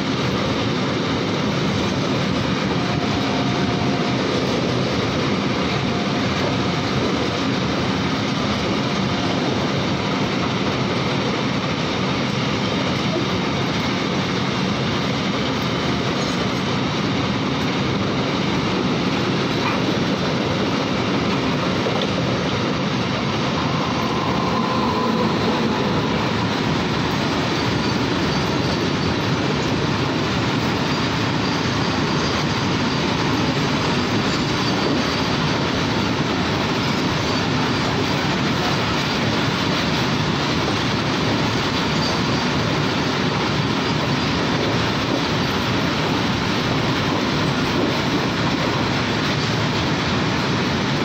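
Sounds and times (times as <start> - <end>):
steel train wheels on rail: 0.0 - 51.0.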